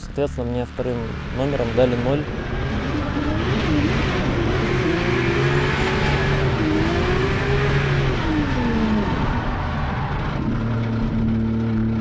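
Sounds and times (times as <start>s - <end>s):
car engine revving hard: 0.4s - 12.0s.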